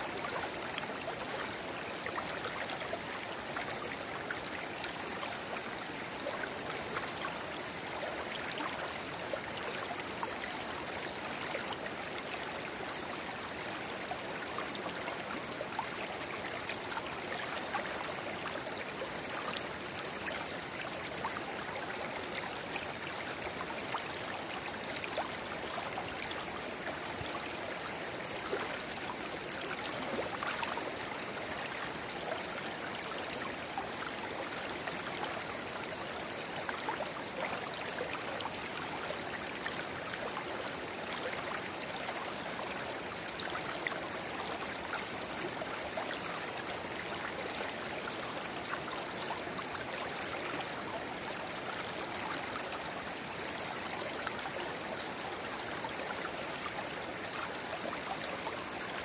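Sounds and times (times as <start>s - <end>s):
river babbling: 0.0s - 59.0s.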